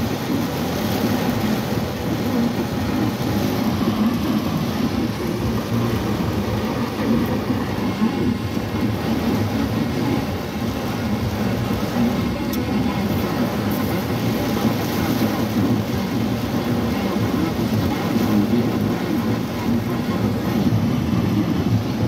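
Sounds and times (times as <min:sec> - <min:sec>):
heavy rain on car roof: 0:00.0 - 0:22.0.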